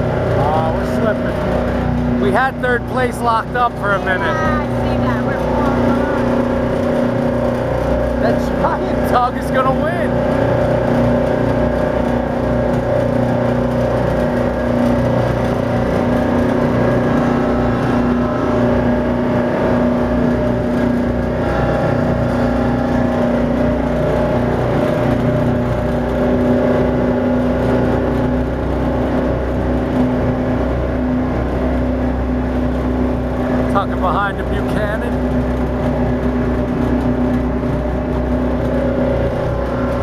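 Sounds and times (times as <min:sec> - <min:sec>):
churning water rushing: 0:00.0 - 0:40.0
diesel engine drone: 0:00.0 - 0:40.0.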